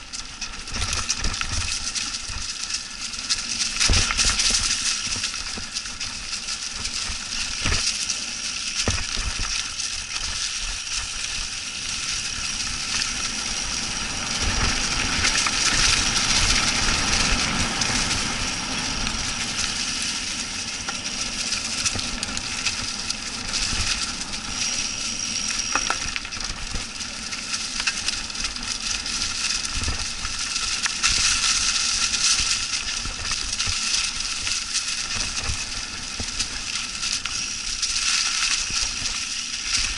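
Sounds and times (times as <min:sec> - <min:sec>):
bike knocking and rattling: 0:00.0 - 0:39.9
tyres crunching dry leaves: 0:00.0 - 0:39.9.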